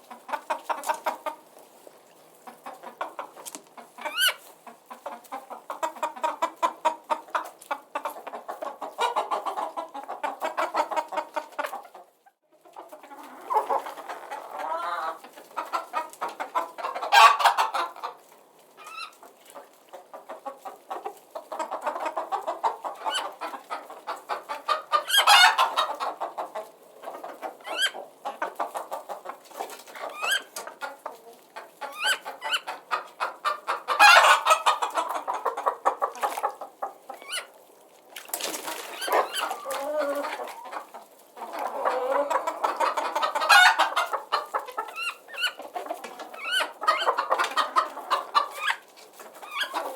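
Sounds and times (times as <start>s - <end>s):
chickens clucking: 0.0s - 49.9s
chickens squawking: 0.0s - 49.9s.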